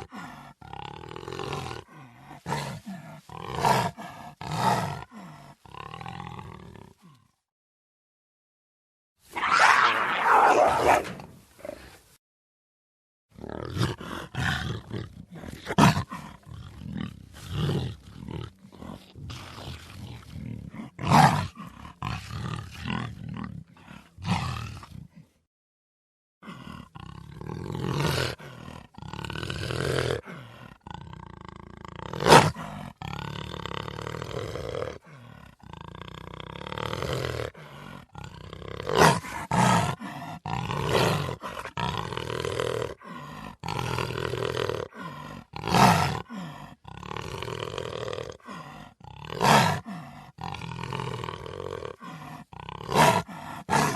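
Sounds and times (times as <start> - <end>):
big cat growling and roaring: 0.0 - 7.4, 9.3 - 12.1, 13.3 - 25.4, 26.4 - 53.9.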